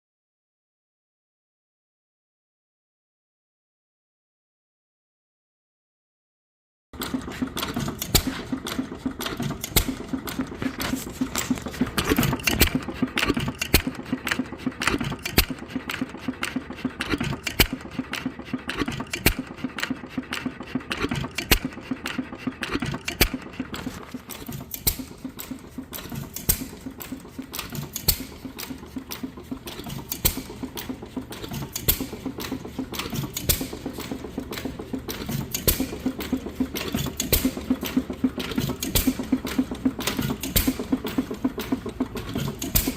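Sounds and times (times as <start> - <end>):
engine mechanical clatter with knocks: 7.0 - 42.9.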